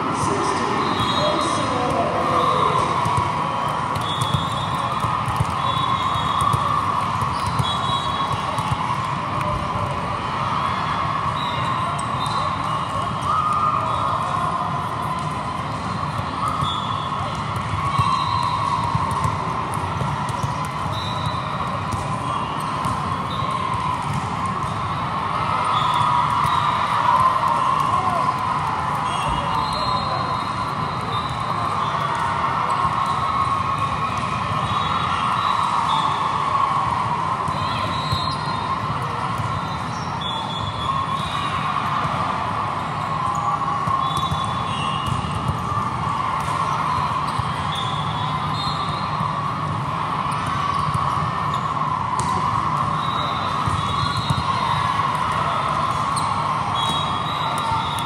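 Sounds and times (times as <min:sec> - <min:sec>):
balls bouncing and being struck: 0:00.0 - 0:10.2, 0:11.4 - 0:36.2, 0:36.8 - 0:58.0
crowd chatter: 0:00.0 - 0:58.0
din of busy sports hall: 0:00.0 - 0:58.0.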